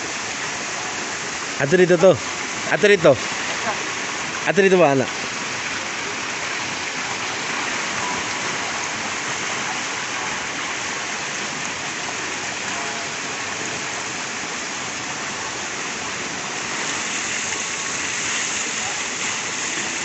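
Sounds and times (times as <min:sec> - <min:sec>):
water splashing into a pool: 0:02.2 - 0:20.0.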